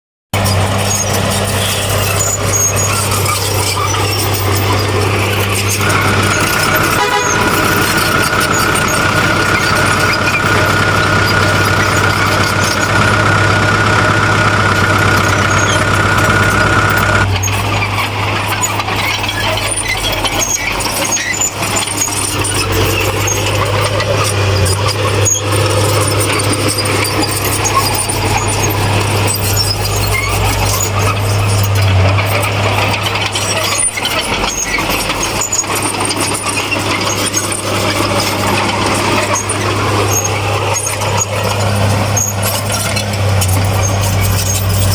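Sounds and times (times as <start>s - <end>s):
heavy diesel machinery running: 0.3s - 44.9s
high steady squeal: 0.4s - 44.9s.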